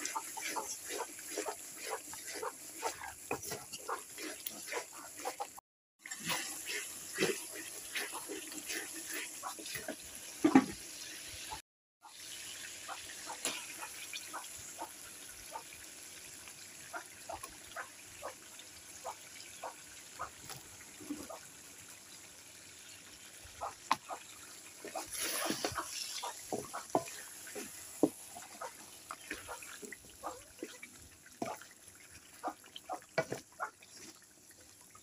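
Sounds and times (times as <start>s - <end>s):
fish frying in hot oil: 0.0s - 35.0s.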